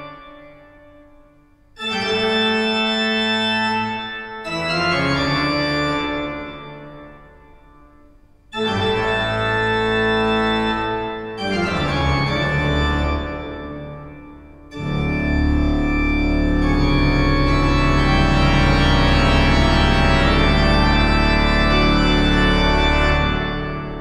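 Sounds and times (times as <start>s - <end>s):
organ playing sustained chords: 0.0s - 24.0s.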